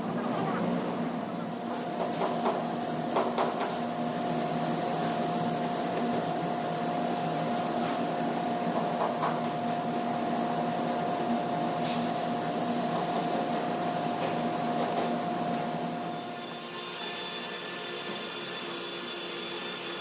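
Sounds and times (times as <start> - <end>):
machine whining and humming: 0.0 - 20.0.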